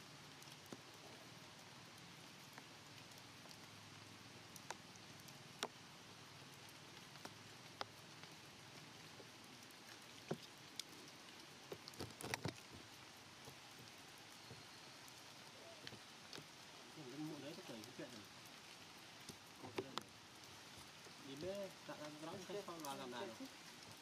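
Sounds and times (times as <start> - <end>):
drips ticking on concrete: 0.0 - 24.0
light rain hiss: 0.0 - 24.0.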